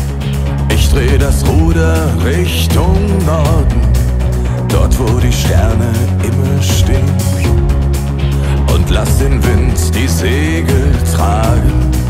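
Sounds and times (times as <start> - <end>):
pop song with steady beat: 0.0 - 12.0.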